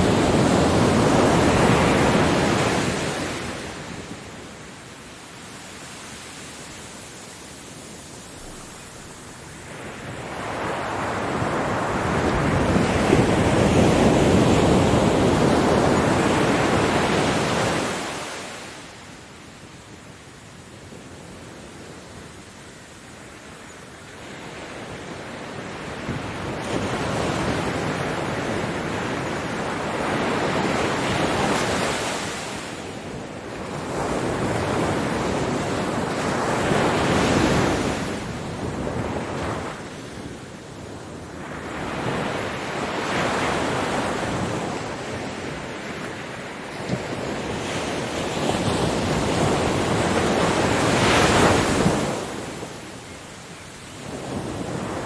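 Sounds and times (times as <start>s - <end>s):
ocean waves breaking: 0.0s - 19.2s, 24.3s - 55.0s.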